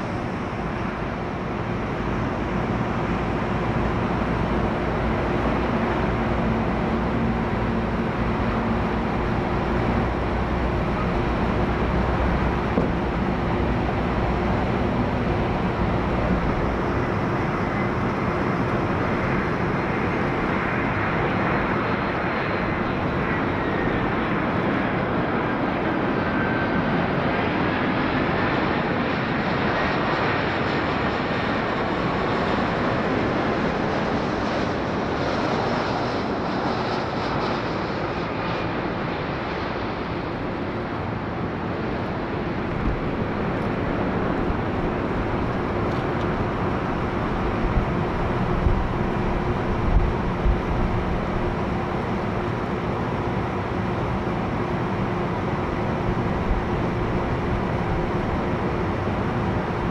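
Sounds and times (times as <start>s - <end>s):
airliner engines rushing: 0.0s - 59.9s
distant jet rumble: 0.0s - 59.9s
high engine whine: 0.0s - 59.9s.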